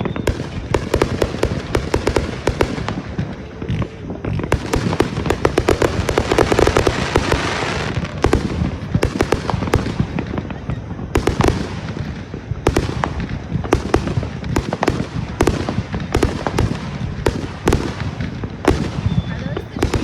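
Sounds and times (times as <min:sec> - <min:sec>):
fireworks cracking and popping: 0:00.0 - 0:20.0.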